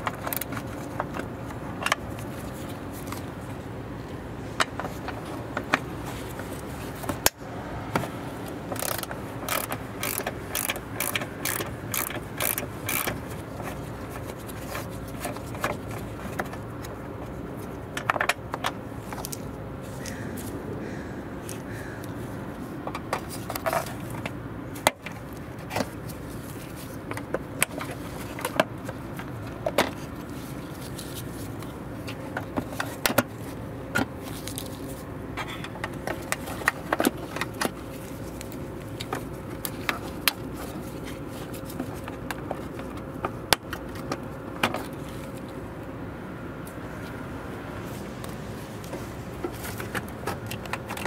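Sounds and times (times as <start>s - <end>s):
outdoor background hum: 0.0s - 51.0s.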